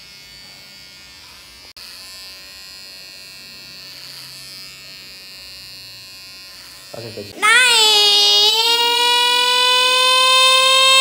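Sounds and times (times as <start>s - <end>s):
electric hair trimmer buzzing: 0.0s - 11.0s.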